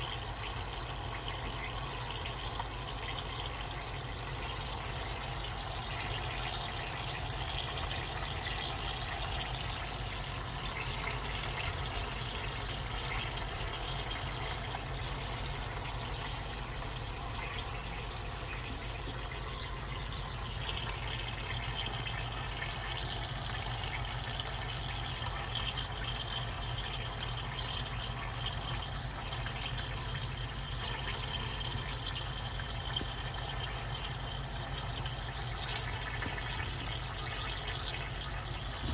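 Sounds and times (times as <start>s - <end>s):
dry ice bubbling hiss: 0.2s - 38.9s.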